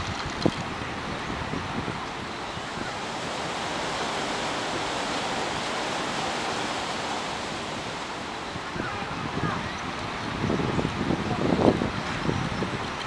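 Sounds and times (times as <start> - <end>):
river water rushing: 0.0 - 13.0
wind: 0.0 - 13.0.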